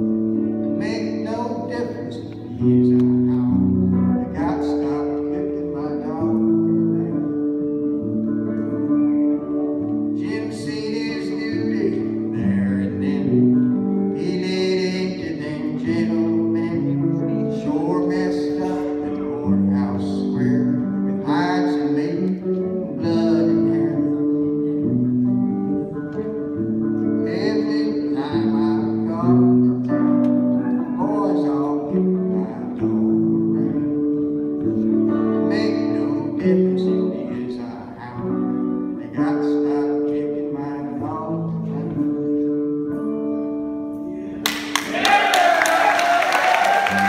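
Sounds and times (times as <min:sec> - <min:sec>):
acoustic guitar folk song: 0:00.0 - 0:44.4.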